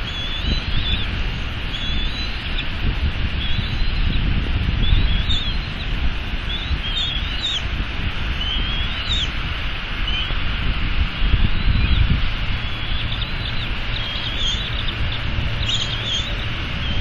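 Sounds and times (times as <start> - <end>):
eaglets cheeping: 0.0 - 10.4, 11.2 - 17.0
rain hiss: 0.0 - 17.0
wind rumble on microphone: 0.0 - 17.0.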